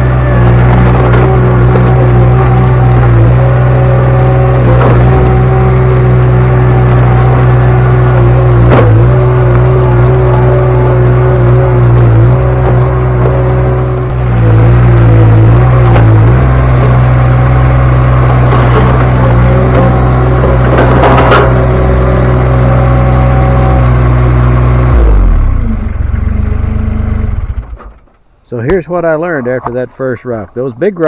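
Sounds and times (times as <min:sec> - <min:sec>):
skid steer engine running: 0:00.0 - 0:28.3.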